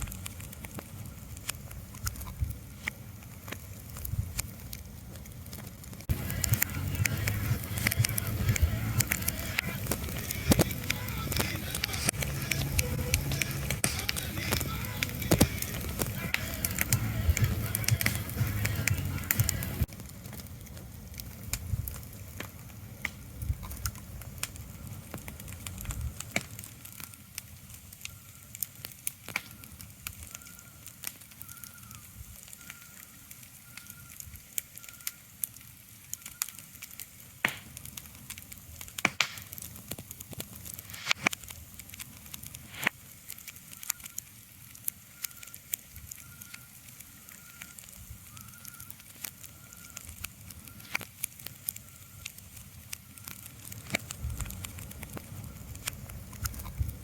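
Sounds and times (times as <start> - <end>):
sharp crackles and clicks: 0.0 - 57.0.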